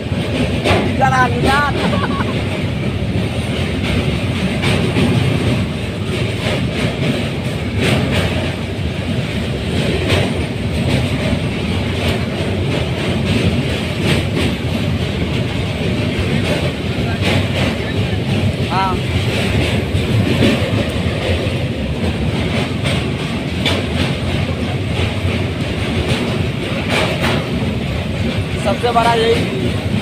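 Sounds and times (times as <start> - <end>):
train wheels rumbling on rails: 0.0 - 30.0
sharp clacks of wheels: 2.3 - 30.0.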